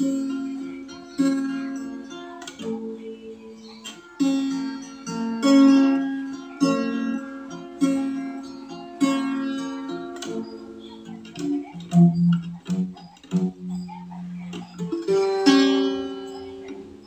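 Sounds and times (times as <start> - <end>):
acoustic guitar fingerpicked: 0.0 - 17.0.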